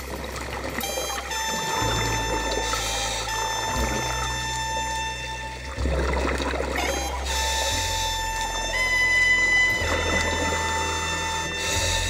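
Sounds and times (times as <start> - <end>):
sustained notes over steady bass: 0.0 - 12.0.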